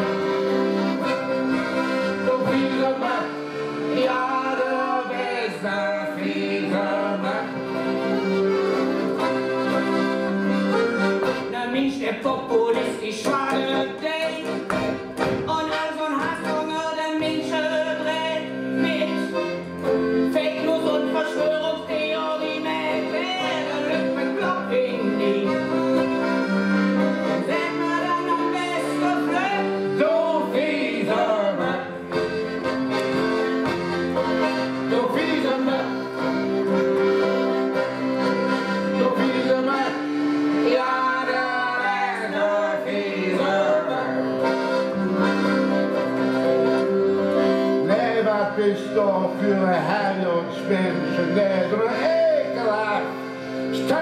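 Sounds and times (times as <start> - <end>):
accordion melody: 0.0 - 54.0
acoustic guitar strumming: 0.0 - 54.0.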